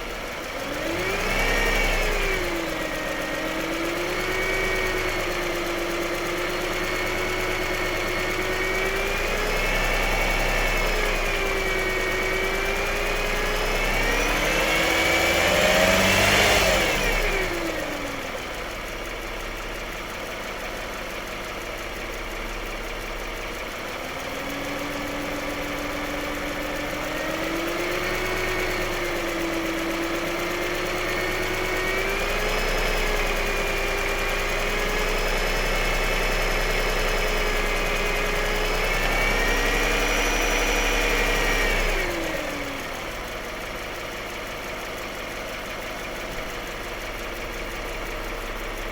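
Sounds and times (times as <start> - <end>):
car engine revving: 0.0 - 18.7, 24.0 - 48.9.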